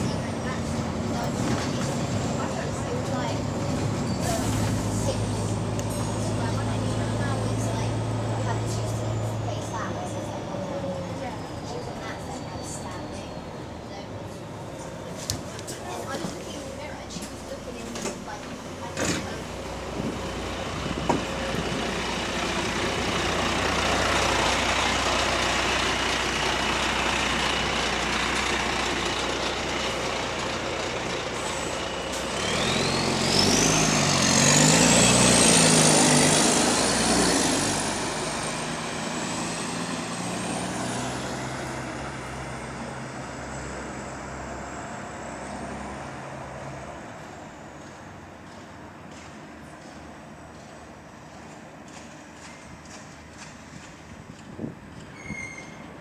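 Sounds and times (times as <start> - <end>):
bus engine revving: 0.0 - 13.3, 14.5 - 48.2.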